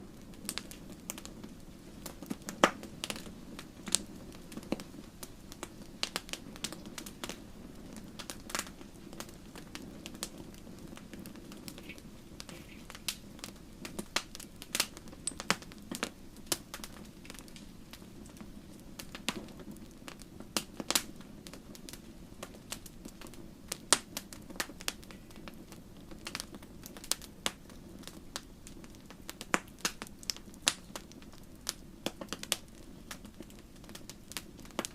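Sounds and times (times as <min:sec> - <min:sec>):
fire crackles and pops: 0:00.0 - 0:34.9
low rumble of flames: 0:00.0 - 0:34.9.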